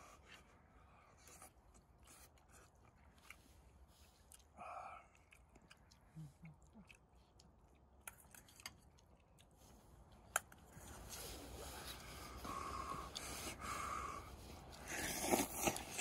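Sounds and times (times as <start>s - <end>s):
chewing and mouth sounds: 0.1s - 13.6s, 14.4s - 16.0s.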